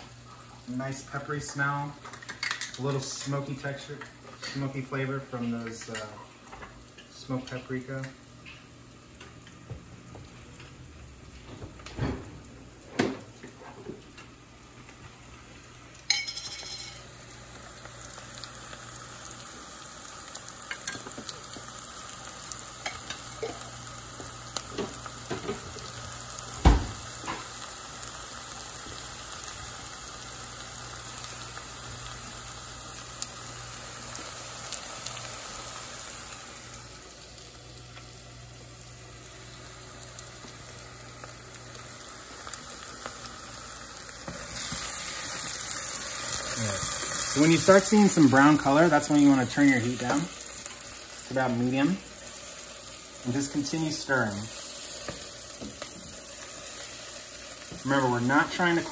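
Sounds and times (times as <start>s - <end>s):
onions sizzling in a pan: 0.0s - 11.9s, 12.5s - 58.9s.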